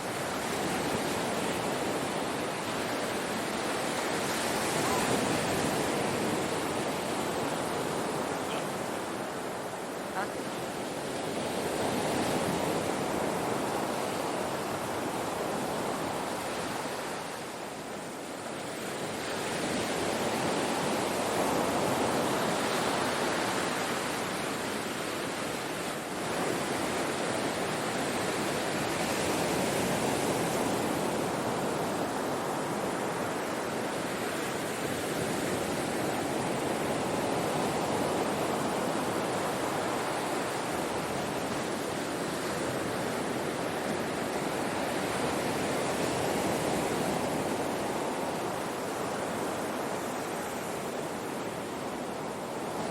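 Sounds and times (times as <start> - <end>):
ocean surf washing onto shore: 0.0 - 52.9.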